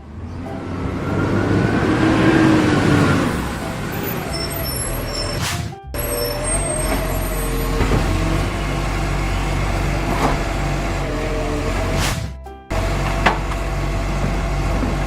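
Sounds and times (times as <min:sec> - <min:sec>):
heavy vehicle engine humming: 0:00.0 - 0:15.0.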